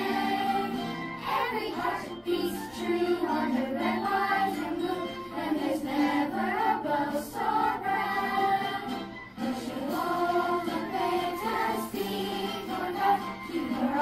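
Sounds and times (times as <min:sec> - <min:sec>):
group singing with music: 0:00.0 - 0:14.0.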